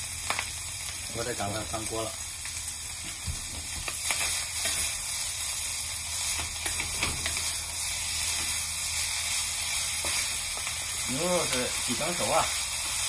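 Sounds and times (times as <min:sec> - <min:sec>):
fried rice sizzling in pan: 0:00.0 - 0:13.0.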